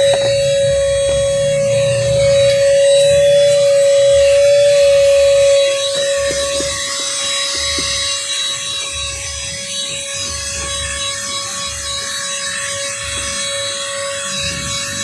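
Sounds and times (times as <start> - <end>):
handheld vacuum cleaner whining: 0.0 - 15.0
vacuum nozzle scraping: 0.0 - 15.0.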